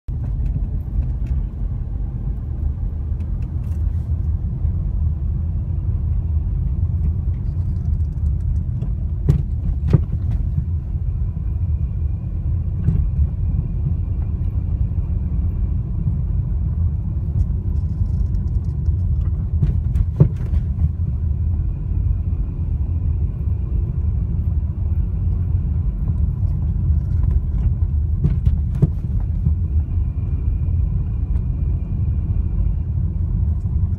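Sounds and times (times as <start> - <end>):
road noise rumble: 0.0 - 33.9.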